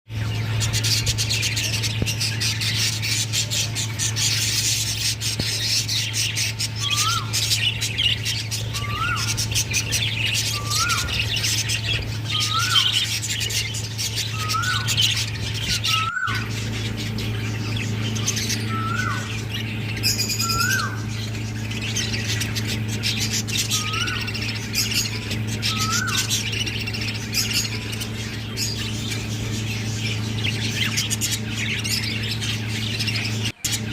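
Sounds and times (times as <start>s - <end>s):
parrots chattering and squawking: 0.1s - 33.9s
steady low hum: 0.1s - 33.9s.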